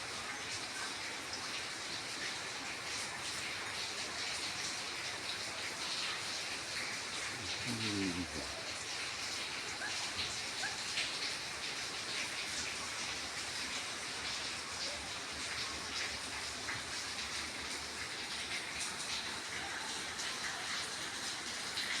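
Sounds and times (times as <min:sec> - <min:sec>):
raindrops ticking and splashing: 0:00.0 - 0:22.0
steady rain falling: 0:00.0 - 0:22.0.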